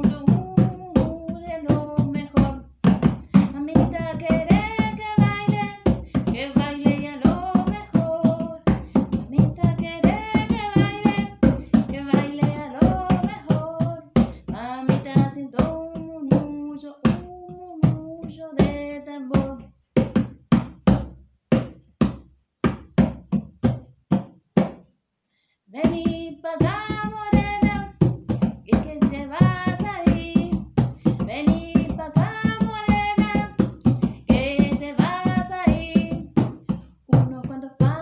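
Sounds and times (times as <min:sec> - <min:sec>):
woman singing: 0:00.0 - 0:19.7, 0:25.7 - 0:36.5, 0:37.1 - 0:38.0
hand drum rhythm: 0:00.0 - 0:24.9, 0:25.8 - 0:38.0.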